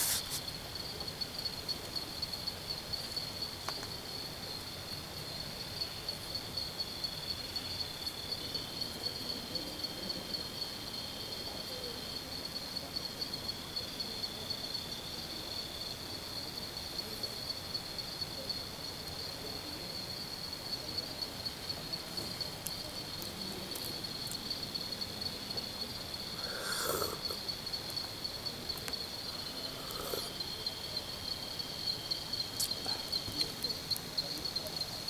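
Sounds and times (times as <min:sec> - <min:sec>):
night insects chirping: 0:00.0 - 0:35.0.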